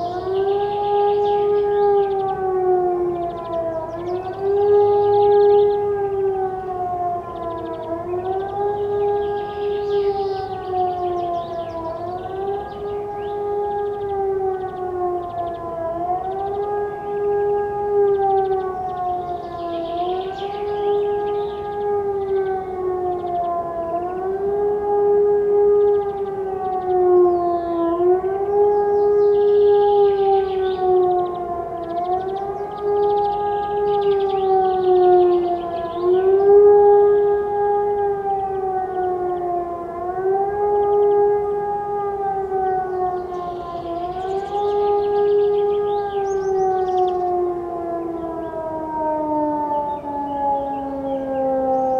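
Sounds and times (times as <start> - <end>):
distant wailing siren: 0.0 - 51.9.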